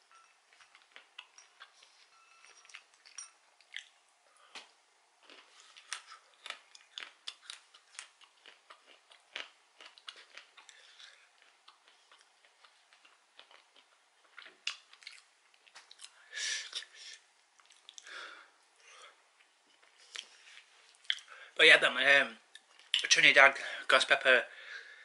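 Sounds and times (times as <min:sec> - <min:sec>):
person chewing peanuts: 0:00.2 - 0:21.4.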